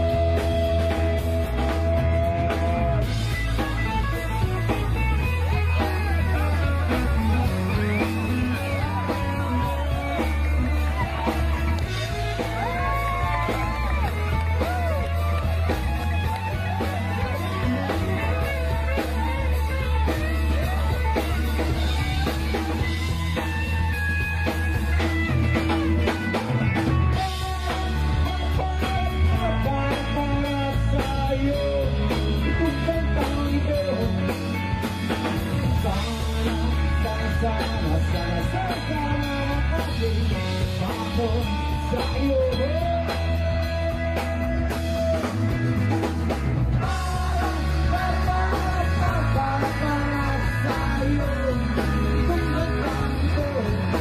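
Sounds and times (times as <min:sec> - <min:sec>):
person singing: 0:00.0 - 0:45.6, 0:46.7 - 0:54.0
rock music: 0:00.0 - 0:54.0.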